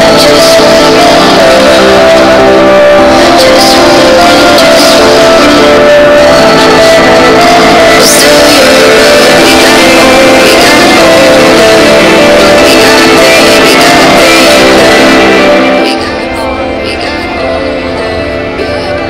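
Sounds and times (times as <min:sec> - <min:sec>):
loud background music: 0:00.0 - 0:19.0.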